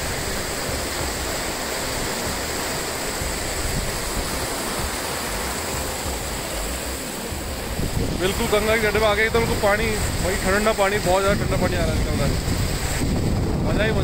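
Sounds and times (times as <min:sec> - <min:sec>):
river rushing over stones: 0:00.0 - 0:14.0
wind rumble on microphone: 0:00.0 - 0:14.0.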